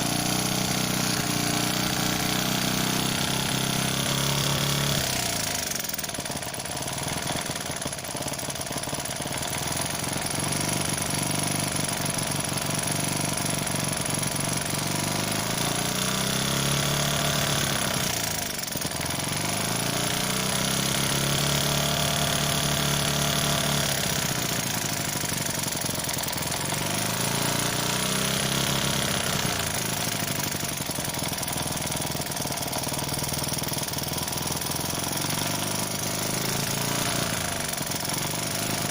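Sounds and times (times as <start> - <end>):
small engine chugging: 0.0 - 38.9.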